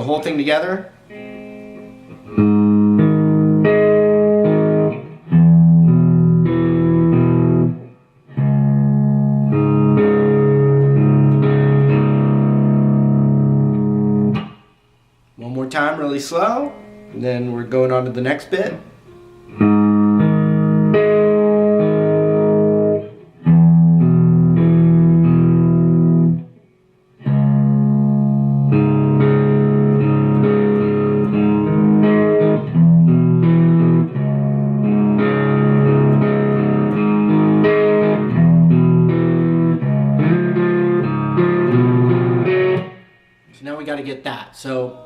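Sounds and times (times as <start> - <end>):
electric guitar riff: 0.0 - 14.9, 16.3 - 43.6.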